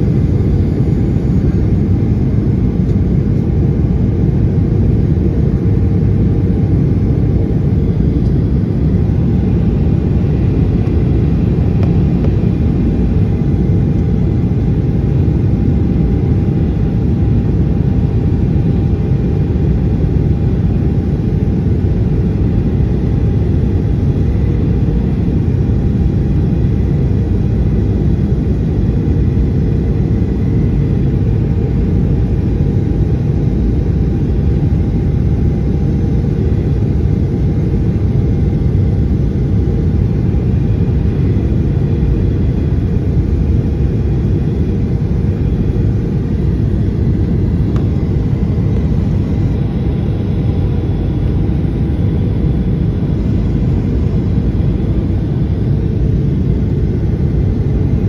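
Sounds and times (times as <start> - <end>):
airplane cabin engine rumble: 0.0 - 58.0
faint steady hums: 0.0 - 58.0.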